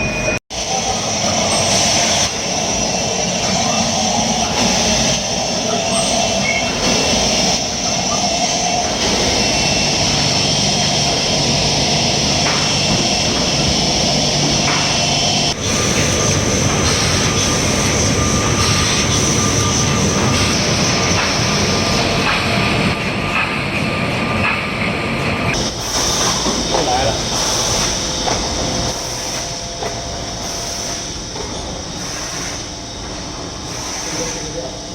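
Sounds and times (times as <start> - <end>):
printing machinery running: 0.0 - 34.9.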